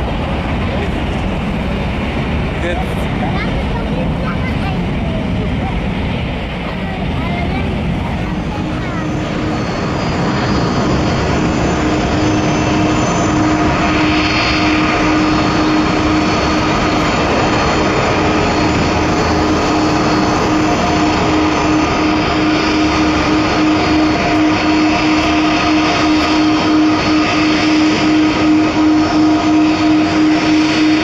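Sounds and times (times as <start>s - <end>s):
jet engines rumbling: 0.0s - 31.0s
steady humming tone: 0.0s - 31.0s.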